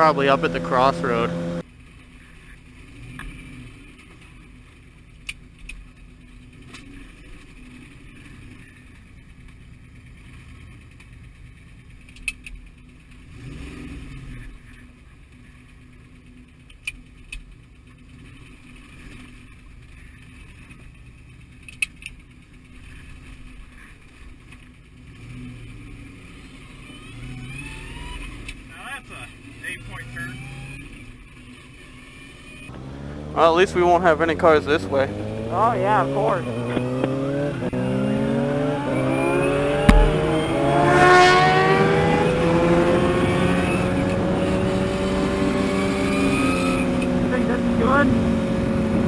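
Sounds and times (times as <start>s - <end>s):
vehicle engine cruising: 0.0s - 21.8s, 22.7s - 49.0s.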